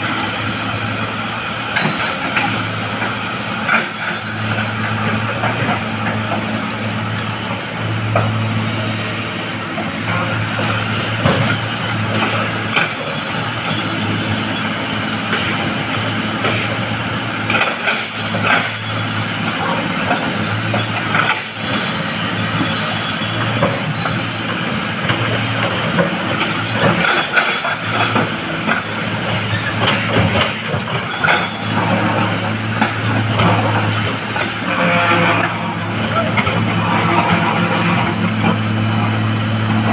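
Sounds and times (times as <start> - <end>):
diesel machinery engine drone: 0.0 - 39.9
knocks and clanks: 1.7 - 6.6, 9.8 - 14.6, 15.2 - 38.7.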